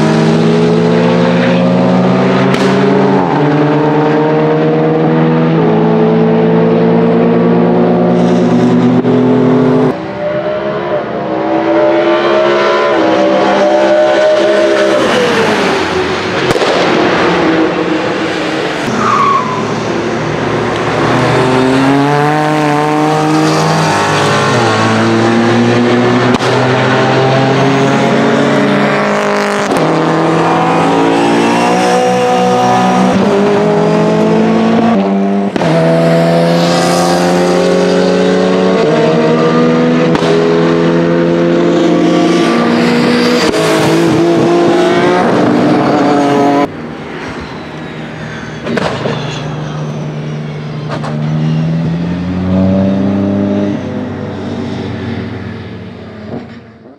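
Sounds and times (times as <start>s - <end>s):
race car engine at full throttle: 0.0s - 56.9s.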